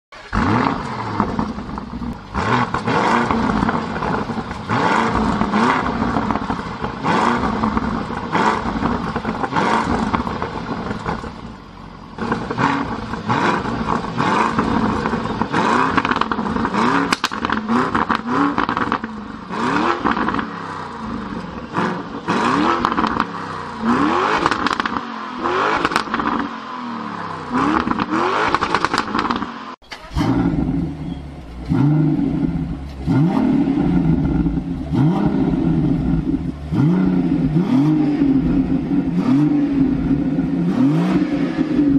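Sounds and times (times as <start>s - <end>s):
car engine running loud: 0.1s - 41.9s
engine revving: 0.1s - 41.9s.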